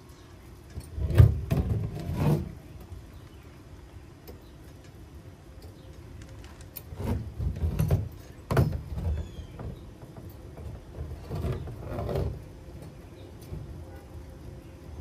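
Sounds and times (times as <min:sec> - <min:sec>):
small parts clunking and rattling: 0:00.6 - 0:03.0, 0:04.2 - 0:14.3.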